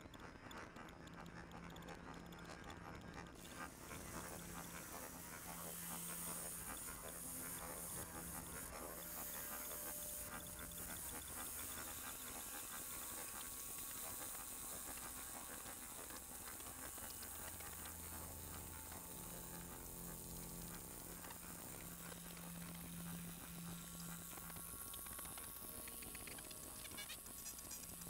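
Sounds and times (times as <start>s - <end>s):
low humming drone tones: 0.0s - 28.0s
electronic noise hiss: 3.4s - 28.0s.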